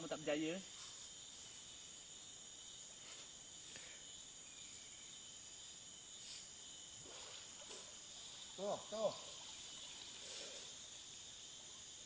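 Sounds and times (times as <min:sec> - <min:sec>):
faint insect chorus drone: 0:00.0 - 0:12.0.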